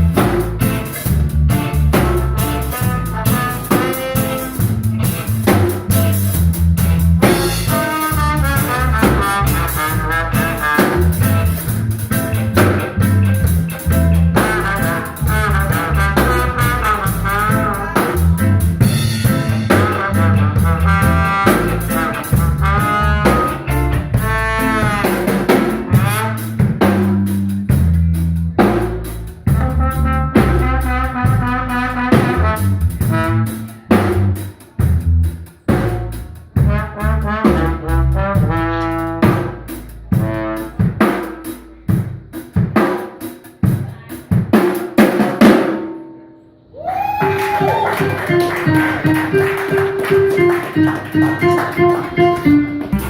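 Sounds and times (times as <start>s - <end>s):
horn playing lead melody: 0.0s - 27.3s, 28.5s - 34.2s, 36.6s - 41.7s, 47.2s - 53.0s
bass guitar groove: 0.0s - 42.8s, 47.1s - 53.0s
drum kit: 0.0s - 53.0s.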